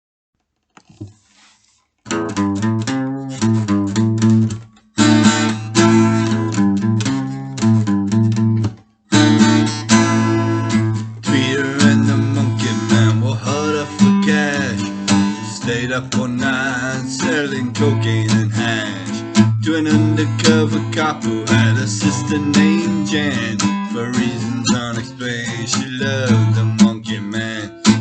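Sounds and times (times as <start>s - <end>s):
strummed acoustic guitar: 2.0s - 28.0s.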